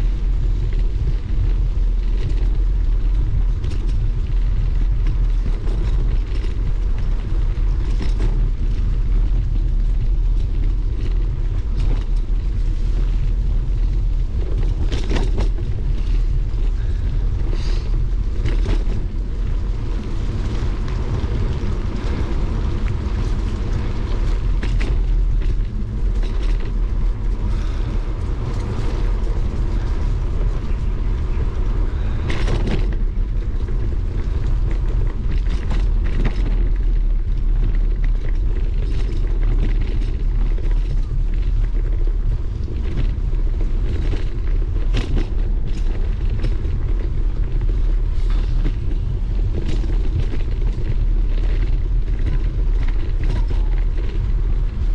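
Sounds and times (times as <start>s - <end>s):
bicycle tyres rumbling on wet road: 0.0s - 54.9s
bike clicks and rattles: 0.0s - 54.9s.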